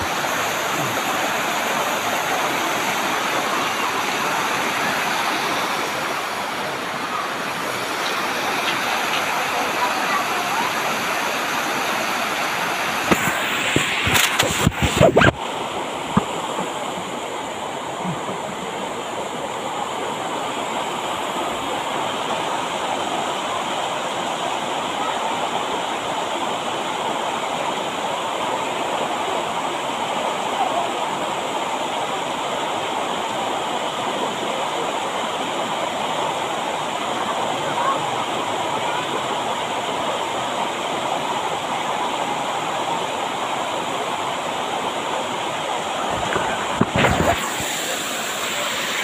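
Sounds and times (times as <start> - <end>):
waterfall rushing into rapids: 0.0 - 49.0.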